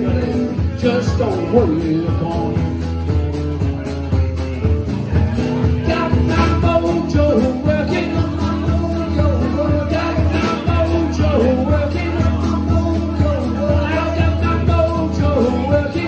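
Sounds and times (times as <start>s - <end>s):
man singing: 0.0s - 3.3s, 4.3s - 16.0s
drum kit with cymbals: 0.0s - 16.0s
strummed acoustic guitar: 0.0s - 16.0s.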